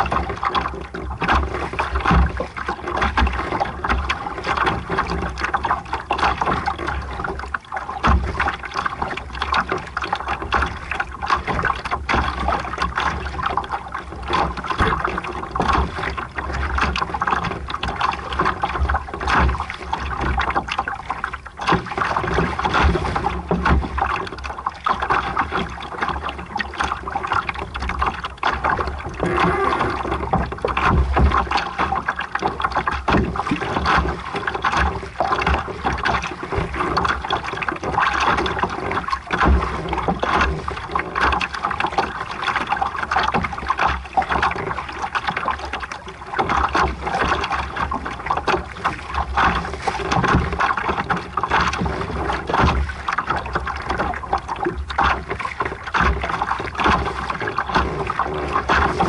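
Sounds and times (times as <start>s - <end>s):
water splashing along boat hull: 0.0s - 59.0s.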